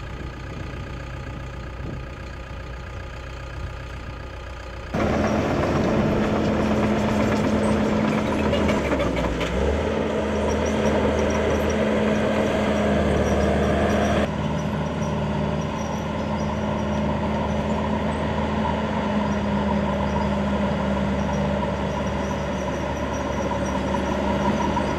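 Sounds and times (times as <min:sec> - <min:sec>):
engine running steadily: 0:00.0 - 0:24.9.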